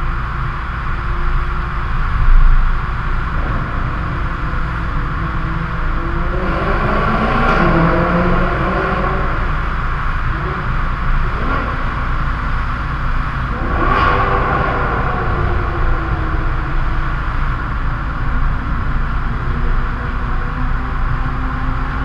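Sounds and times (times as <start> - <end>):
car engine and exhaust: 0.0 - 22.0
road and tyre noise: 0.0 - 22.0.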